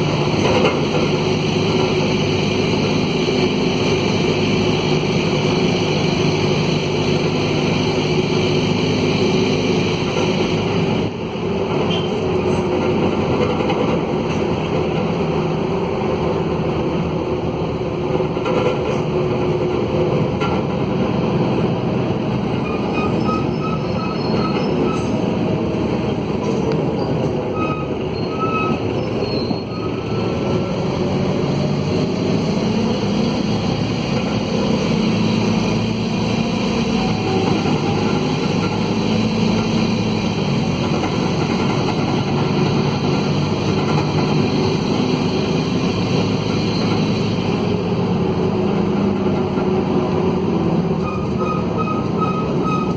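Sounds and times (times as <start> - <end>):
rough diesel bus engine: 0.0 - 52.9.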